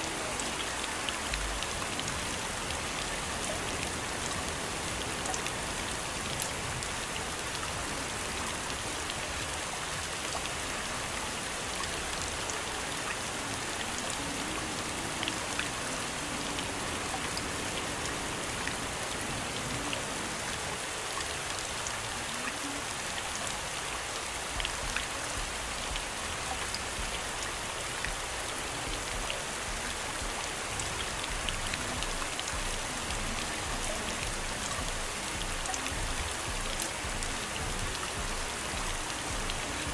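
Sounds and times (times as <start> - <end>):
patters of raindrops: 0.0 - 39.9
rain hissing: 0.0 - 39.9.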